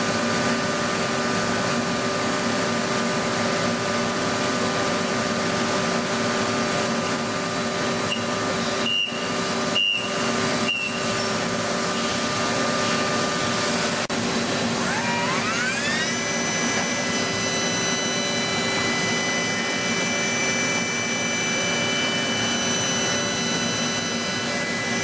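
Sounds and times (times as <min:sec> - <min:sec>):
machine hum and hiss: 0:00.0 - 0:25.0
drive motor whine: 0:02.0 - 0:25.0.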